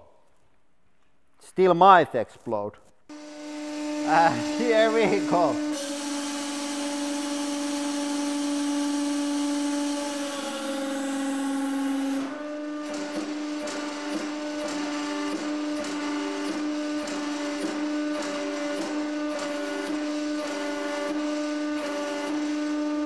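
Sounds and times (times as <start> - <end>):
hydraulic press motor humming: 3.1 - 23.0.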